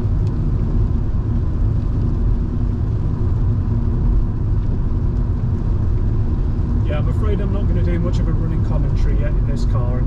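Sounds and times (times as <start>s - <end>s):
car engine rumble: 0.0s - 10.0s
tyre and road noise: 0.0s - 10.0s.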